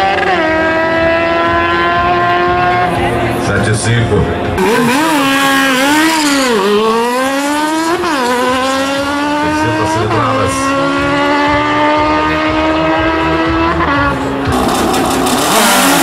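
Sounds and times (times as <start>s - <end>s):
motorcycle engine revving and accelerating: 0.0s - 16.0s.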